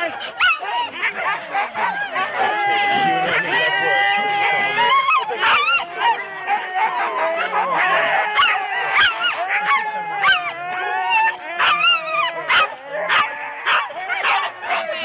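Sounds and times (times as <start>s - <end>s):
dogs howling whining and yipping: 0.0s - 15.0s.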